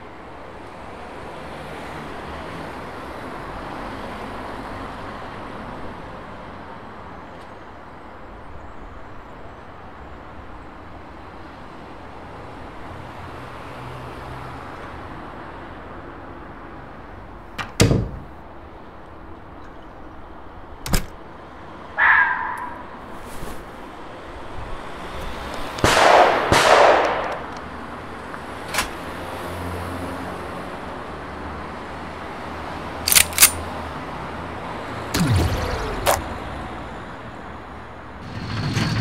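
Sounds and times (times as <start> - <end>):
city street traffic: 0.0 - 39.0.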